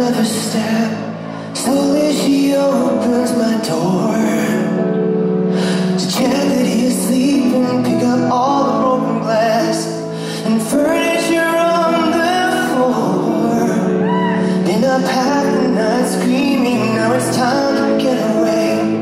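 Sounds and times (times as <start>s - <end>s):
instrumental backing music: 0.0s - 19.0s
man singing into a microphone: 0.0s - 19.0s.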